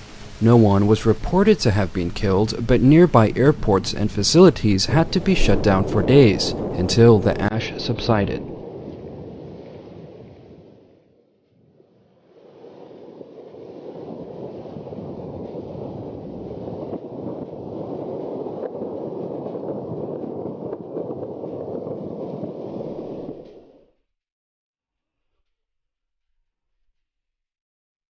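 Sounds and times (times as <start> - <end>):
volcano rushing rumble: 0.0 - 23.8.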